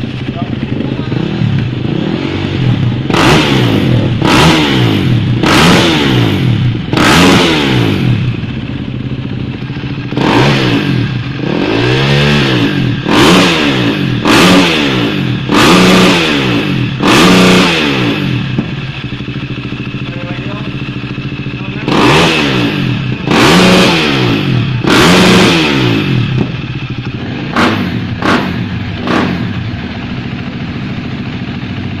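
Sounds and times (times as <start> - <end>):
engine idling and revving: 0.0 - 32.0.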